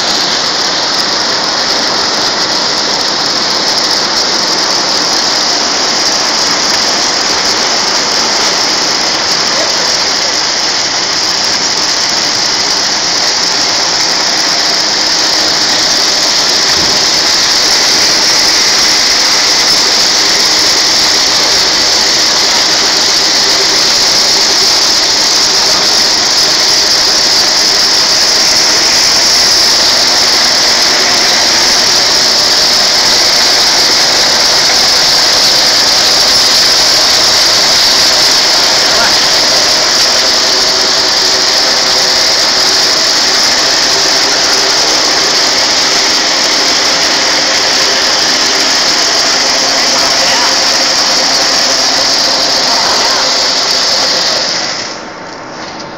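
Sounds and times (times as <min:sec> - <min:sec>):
slitting machine high-pitched hiss: 0:00.0 - 0:55.9.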